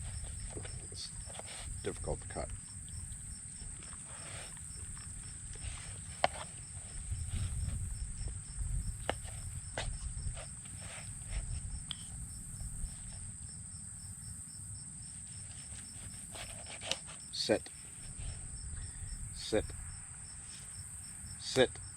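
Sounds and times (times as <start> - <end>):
cricket-like chirp: 0.0 - 21.9
insects droning: 0.0 - 21.9.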